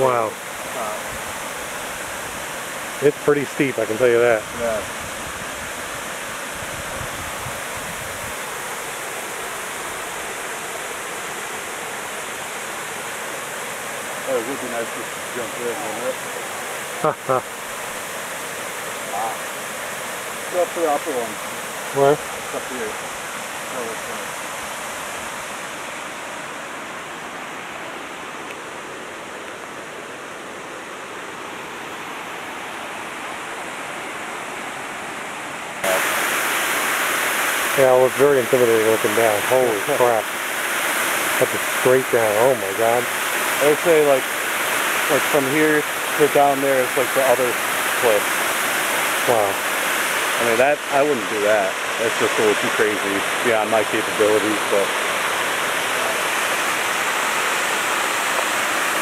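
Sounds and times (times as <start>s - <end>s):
water rushing over dam: 0.0s - 59.0s.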